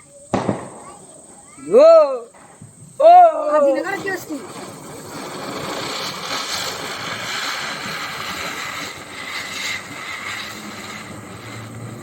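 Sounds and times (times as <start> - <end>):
spinning firecracker hissing whirr: 0.0 - 12.0.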